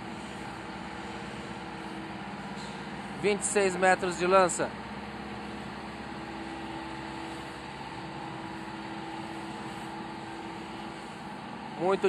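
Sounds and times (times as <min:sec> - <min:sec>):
crane engine running under load: 0:00.0 - 0:12.0.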